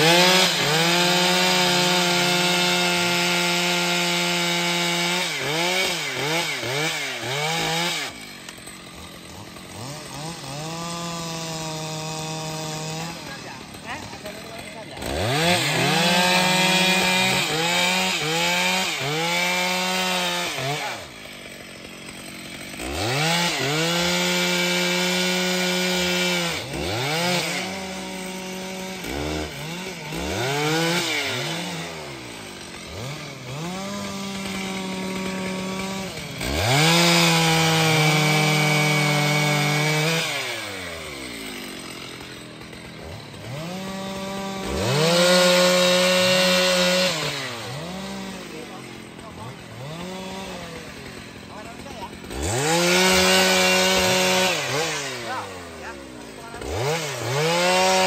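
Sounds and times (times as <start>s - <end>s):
chainsaw revving in a cut: 0.0s - 58.0s.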